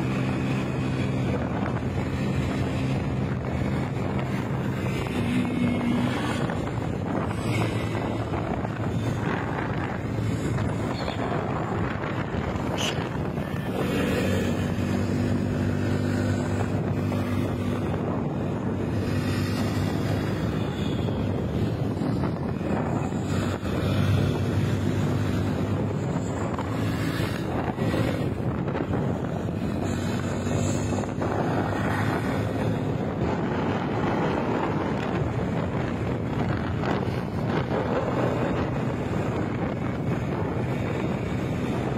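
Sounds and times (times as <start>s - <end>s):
motorcycle engine hum: 0.0s - 41.9s
rushing vehicle noise: 0.0s - 41.9s
wind buffeting microphone: 0.0s - 41.9s.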